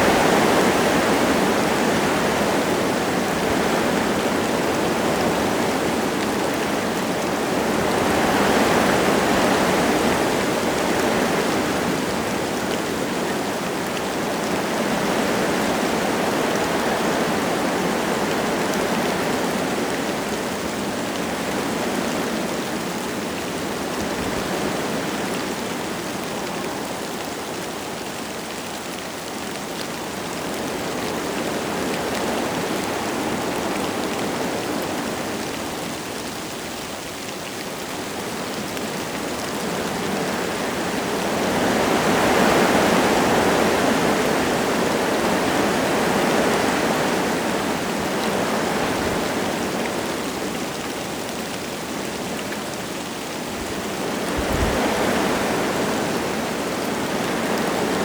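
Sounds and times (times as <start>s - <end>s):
light rain: 0.0s - 58.0s
wind gusting through trees: 0.0s - 58.0s.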